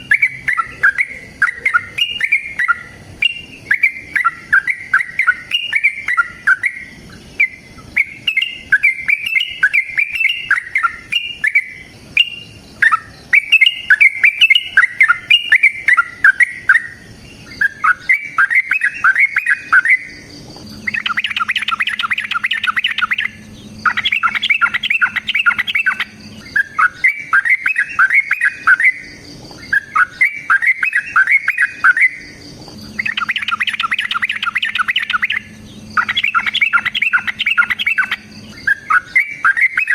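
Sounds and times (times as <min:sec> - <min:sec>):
bird singing bubbly chattering: 0:00.0 - 0:39.9
faint steady hum: 0:00.0 - 0:39.9.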